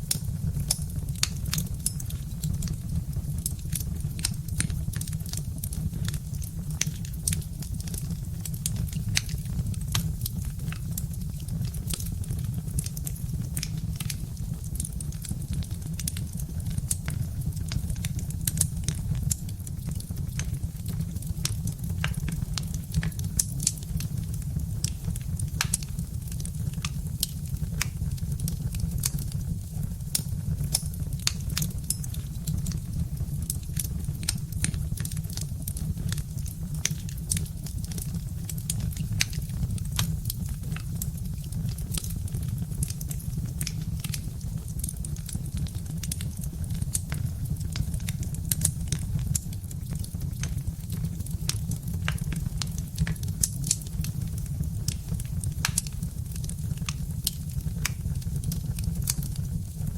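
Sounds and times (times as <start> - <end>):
log fire crackling: 0.0 - 59.9.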